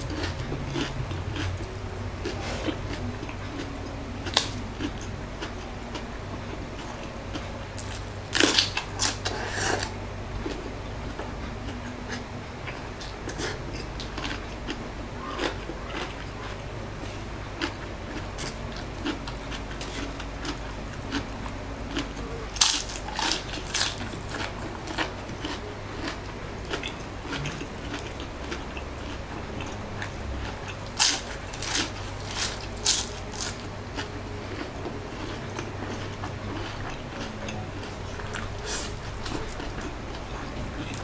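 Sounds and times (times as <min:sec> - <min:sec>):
crunchy chewing: 0:00.0 - 0:41.0
low hum: 0:00.0 - 0:41.0.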